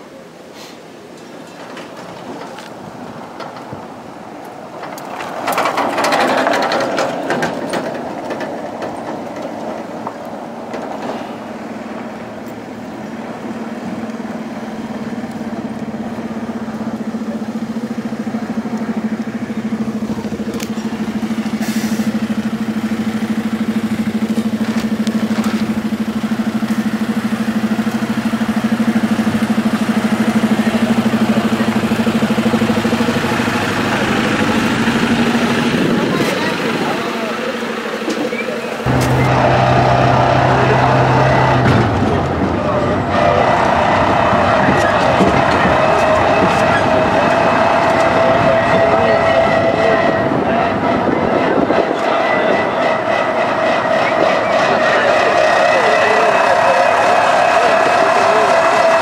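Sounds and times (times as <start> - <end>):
loud rush of noise: 0.0 - 59.0
train engine idling: 0.0 - 59.0.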